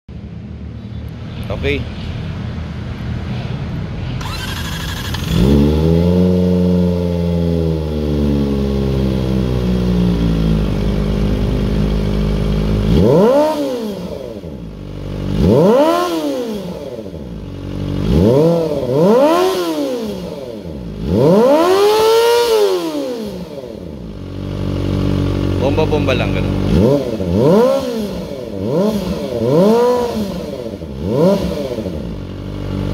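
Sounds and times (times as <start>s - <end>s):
motorcycle engine revving: 4.2s - 32.9s.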